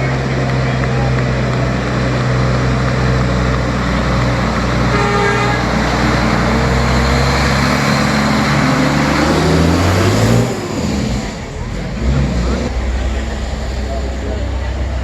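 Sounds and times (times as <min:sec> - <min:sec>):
engine droning and revving: 0:00.0 - 0:15.0.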